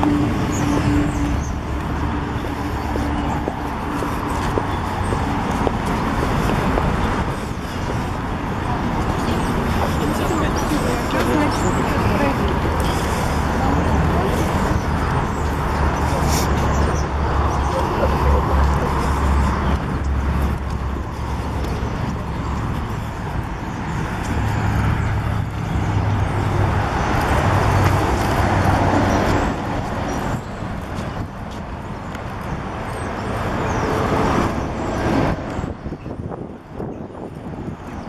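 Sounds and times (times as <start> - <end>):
passing road traffic: 0.0 - 38.0.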